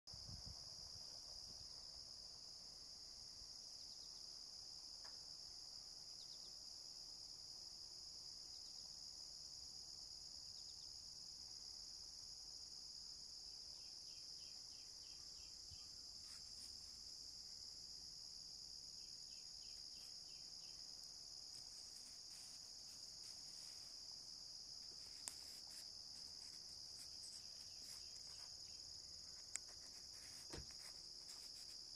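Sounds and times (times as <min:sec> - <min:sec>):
crickets and insects chirping: 0:00.1 - 0:31.9.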